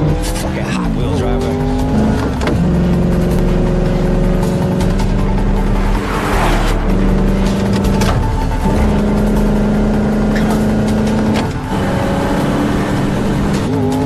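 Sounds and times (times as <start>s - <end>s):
car engine running under load: 0.0s - 14.0s.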